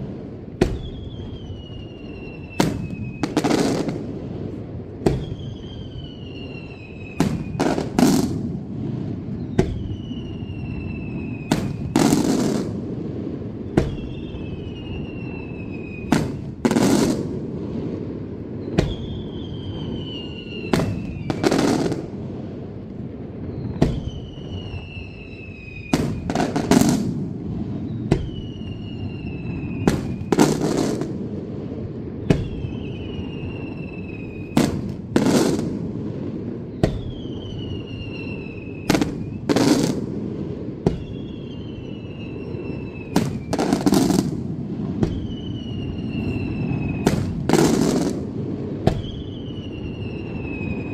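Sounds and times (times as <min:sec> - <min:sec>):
firework bangs: 0:00.0 - 0:50.9
falling whistle: 0:00.6 - 0:03.9, 0:05.0 - 0:08.3, 0:09.1 - 0:12.5, 0:13.5 - 0:17.1, 0:18.5 - 0:22.1, 0:23.4 - 0:27.0, 0:27.7 - 0:31.0, 0:32.2 - 0:35.6, 0:36.6 - 0:40.0, 0:40.8 - 0:50.9.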